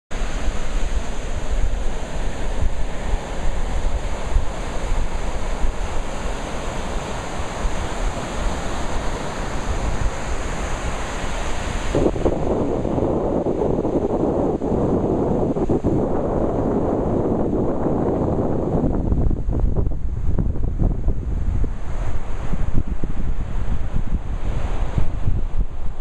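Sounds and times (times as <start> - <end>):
waves breaking on beach: 0.1 - 26.0
wind buffeting microphone: 0.2 - 26.0.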